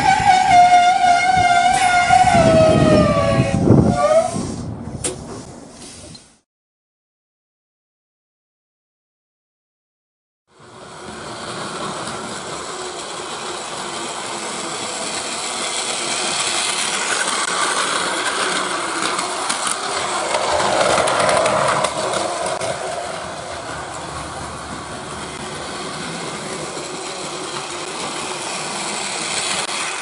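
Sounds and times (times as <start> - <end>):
rail clicks: 0.0 - 6.2, 10.7 - 30.0
train running on rails: 0.0 - 6.2, 10.5 - 30.0.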